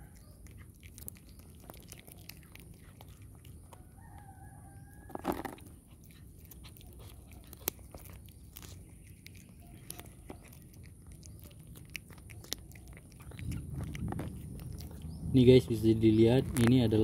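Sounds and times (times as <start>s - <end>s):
cat chewing fish bones: 0.0s - 15.4s.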